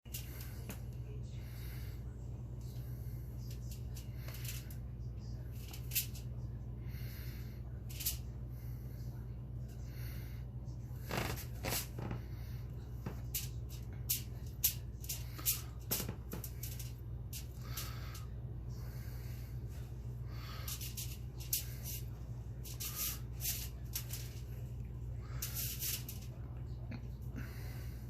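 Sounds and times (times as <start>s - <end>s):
steady low hum: 0.1s - 28.0s.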